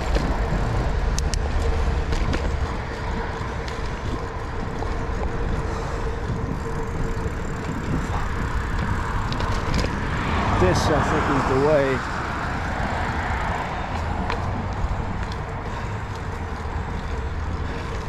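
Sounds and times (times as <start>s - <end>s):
wind on microphone: 0.0s - 15.8s
bicycle tyres rumbling: 0.0s - 18.0s
bike clicks: 0.0s - 18.0s.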